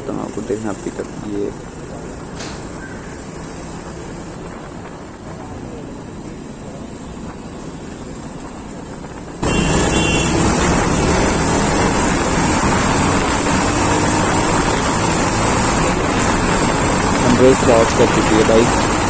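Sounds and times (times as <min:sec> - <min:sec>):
motorcycle accelerating: 0:00.0 - 0:19.0
wind rush on microphone: 0:02.1 - 0:19.0.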